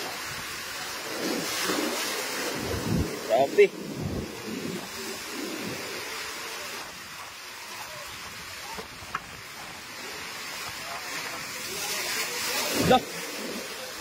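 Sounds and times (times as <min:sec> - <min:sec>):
water rushing through alley: 0:00.0 - 0:14.0.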